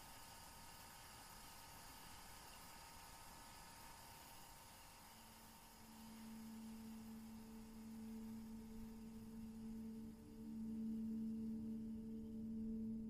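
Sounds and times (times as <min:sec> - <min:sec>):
faint ambient drone: 0:00.0 - 0:13.0.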